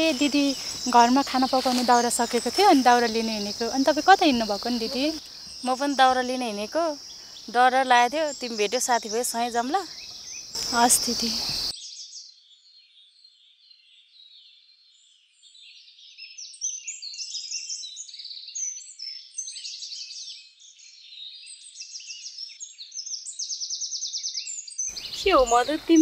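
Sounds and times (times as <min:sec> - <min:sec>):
small birds chirping and twittering: 0:00.0 - 0:26.0.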